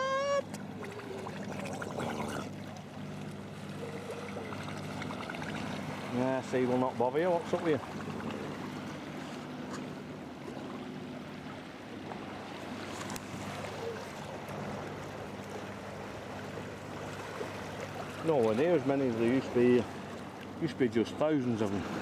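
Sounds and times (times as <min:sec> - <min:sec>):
water lapping around kayak: 0:00.0 - 0:22.0.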